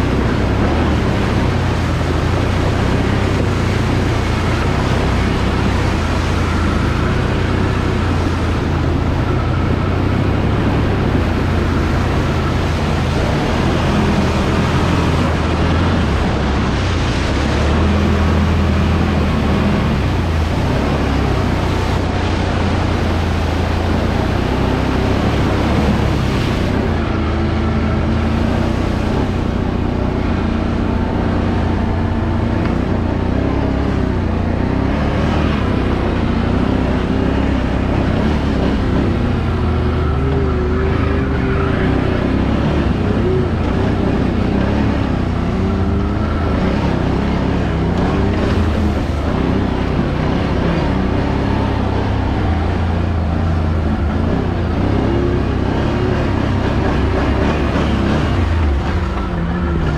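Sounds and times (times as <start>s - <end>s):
atv engine droning: 0.0s - 59.9s
rushing noise: 0.0s - 59.9s.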